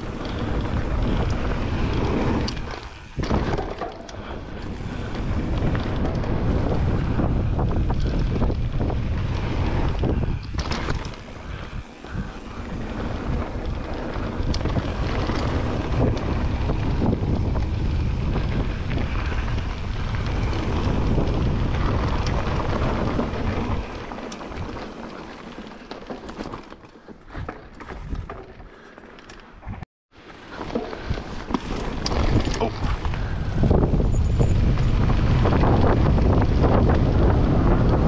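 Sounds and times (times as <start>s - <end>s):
wind buffeting microphone: 0.0s - 25.4s, 31.0s - 38.0s
tyres rattling on loose dirt: 0.0s - 29.5s, 30.2s - 38.0s.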